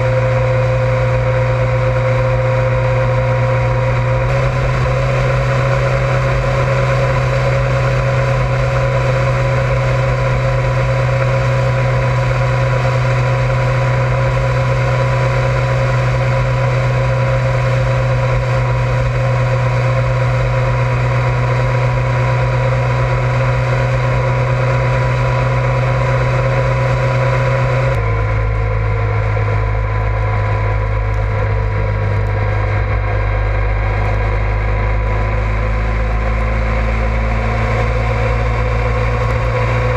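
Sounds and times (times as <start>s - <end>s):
motorcycle engine cruising: 0.0s - 39.9s
road noise: 0.0s - 39.9s.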